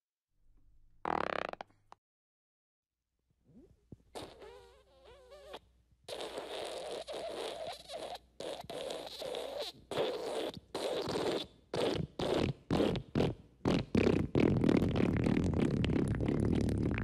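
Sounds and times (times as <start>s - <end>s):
sputtering fart sounds: 1.0s - 1.8s, 3.5s - 17.0s.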